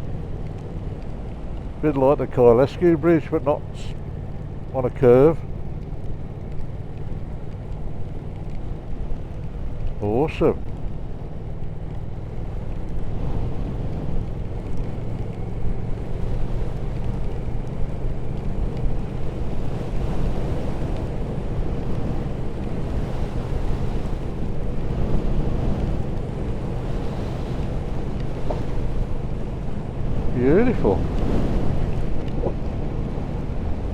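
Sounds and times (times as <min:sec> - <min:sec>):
motorcycle engine cruising: 0:00.0 - 0:33.9
wind noise on microphone: 0:05.8 - 0:33.9.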